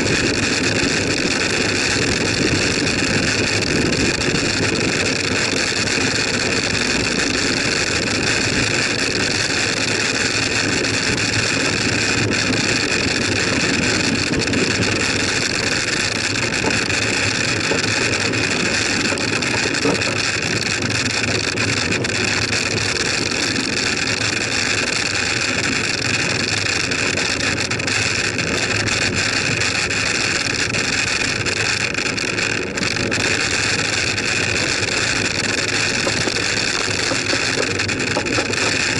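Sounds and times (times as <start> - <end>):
bicycle tyre noise: 0.0 - 38.9
wind rush on microphone: 0.0 - 38.9.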